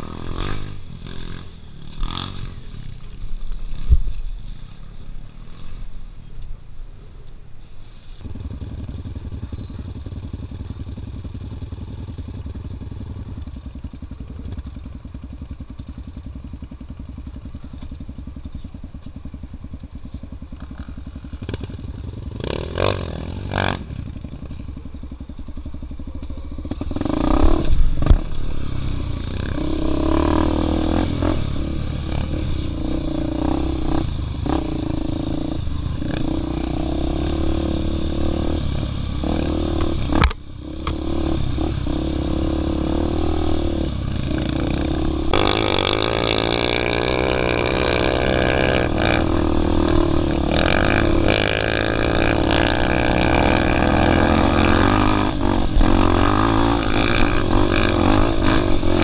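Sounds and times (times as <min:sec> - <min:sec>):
motorcycle engine revving: 0:00.0 - 0:05.9, 0:08.2 - 0:59.0.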